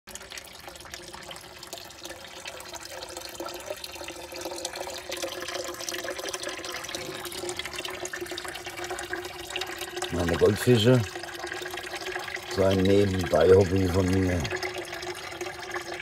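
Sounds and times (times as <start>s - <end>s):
water drips: 0.1s - 16.0s
water trickling into pond: 0.1s - 16.0s.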